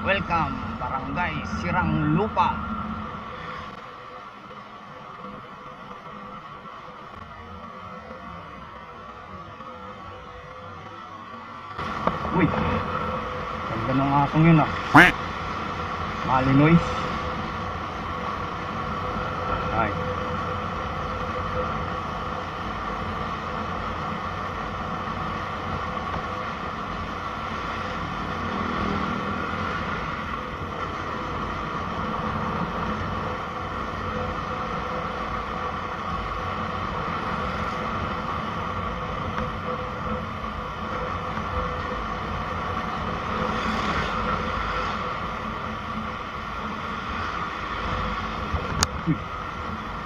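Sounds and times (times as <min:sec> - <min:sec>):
road and wind noise: 0:00.0 - 0:50.0
vehicle engine running: 0:00.0 - 0:50.0.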